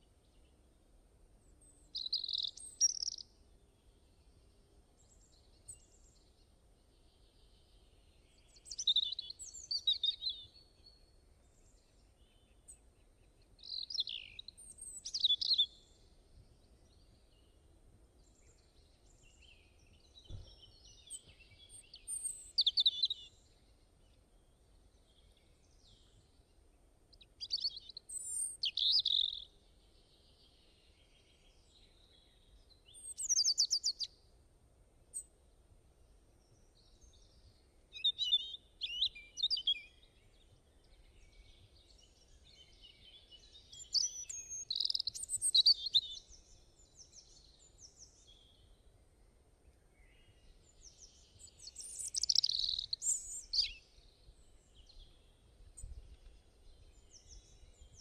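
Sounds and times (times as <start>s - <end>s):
songbird chirps and trills: 0.0s - 34.4s, 35.0s - 58.0s.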